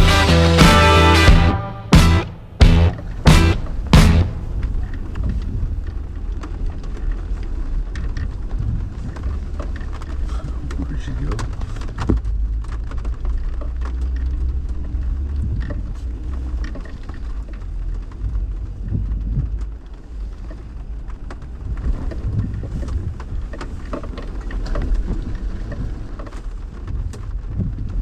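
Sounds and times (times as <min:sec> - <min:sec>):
off-road vehicle rumbling: 0:02.6 - 0:28.0.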